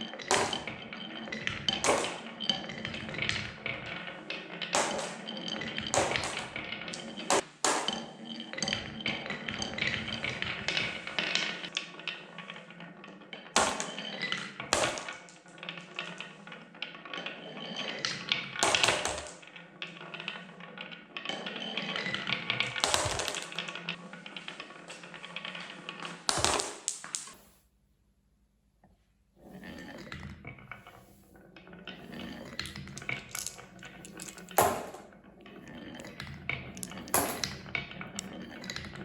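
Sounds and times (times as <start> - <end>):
loud marble clacks: 0.0 - 20.5, 21.2 - 24.0, 25.5 - 27.4, 31.9 - 39.0
marbles rattling down wooden track: 0.0 - 27.4, 29.4 - 39.0.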